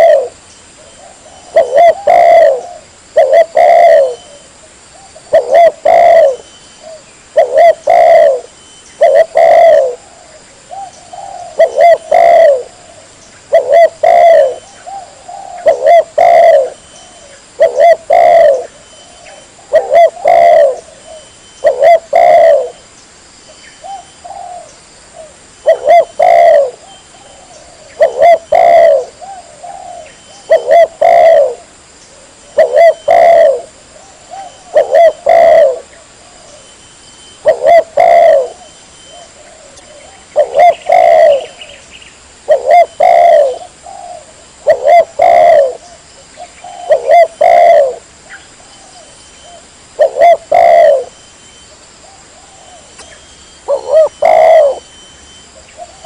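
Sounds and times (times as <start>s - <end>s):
dove cooing: 0.0s - 22.8s, 23.8s - 41.8s, 42.4s - 51.2s, 52.0s - 56.0s.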